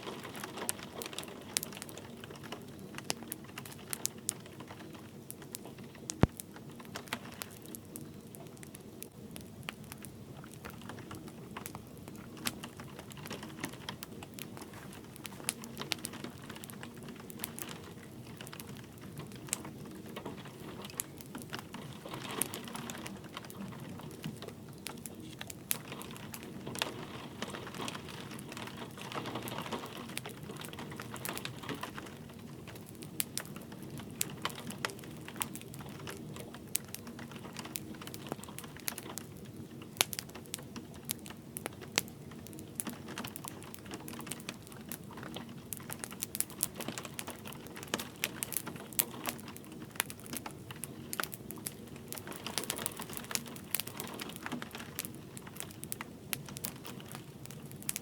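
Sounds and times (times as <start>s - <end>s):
light rain hiss: 0.0s - 58.0s
wood fire crackling: 0.0s - 58.0s.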